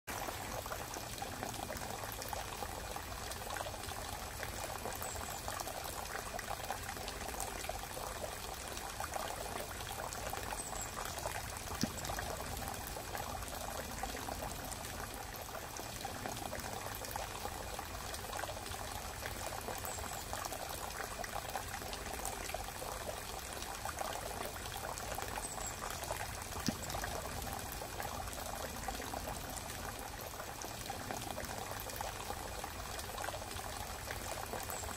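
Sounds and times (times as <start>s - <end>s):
steady pouring water-like noise: 0.1s - 34.9s.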